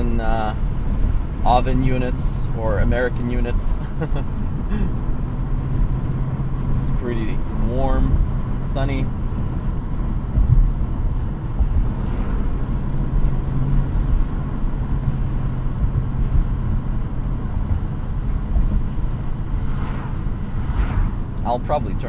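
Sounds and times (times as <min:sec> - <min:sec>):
car exhaust drone: 0:00.0 - 0:22.0
road and tyre noise: 0:00.0 - 0:22.0.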